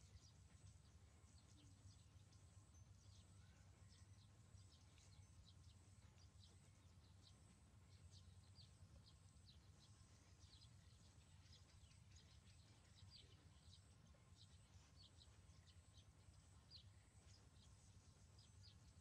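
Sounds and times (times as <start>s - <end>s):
faint high chirps: 0.0s - 19.0s
low steady hum: 0.0s - 19.0s.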